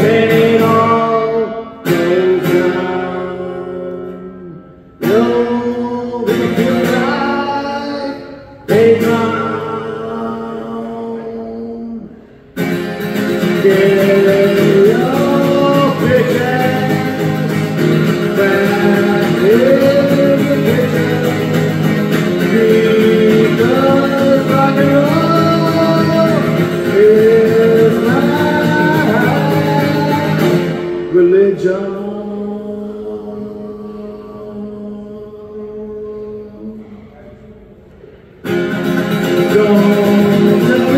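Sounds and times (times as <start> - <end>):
man singing rock song: 0.0 - 12.1, 13.2 - 36.6, 39.1 - 40.9
acoustic guitar strumming: 0.0 - 40.9.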